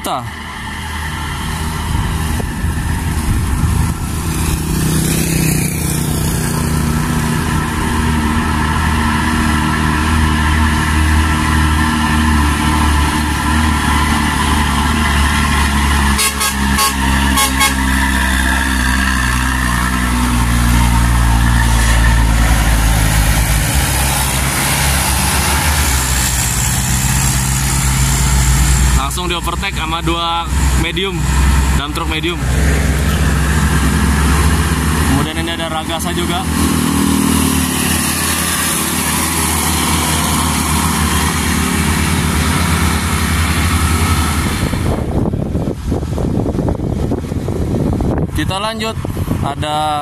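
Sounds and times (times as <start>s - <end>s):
motorcycle passing: 0.0s - 49.4s
diesel trucks climbing under load: 0.0s - 50.0s.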